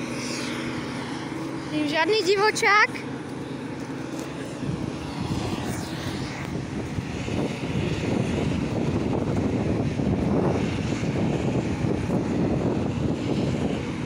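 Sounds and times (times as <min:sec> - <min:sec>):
farm machinery engine rumbling: 0:00.0 - 0:14.0.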